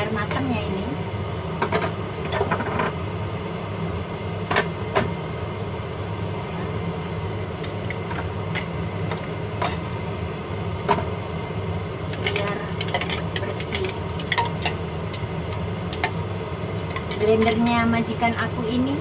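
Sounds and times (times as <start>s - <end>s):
extractor fan humming: 0.0s - 19.0s.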